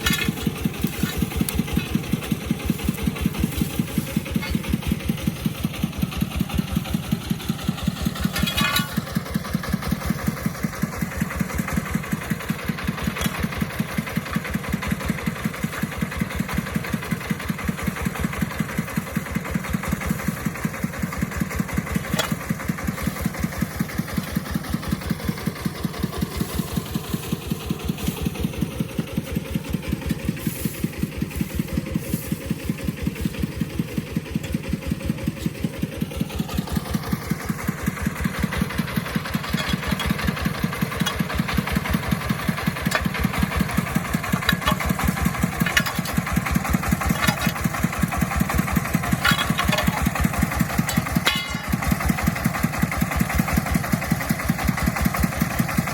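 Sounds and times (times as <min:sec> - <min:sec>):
rattle: 0:00.0 - 0:55.9
tractor engine chugging: 0:00.0 - 0:55.9.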